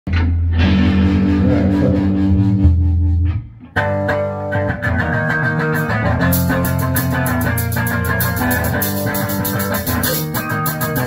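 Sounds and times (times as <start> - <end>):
electric guitars through amplifiers: 0.1 - 11.0.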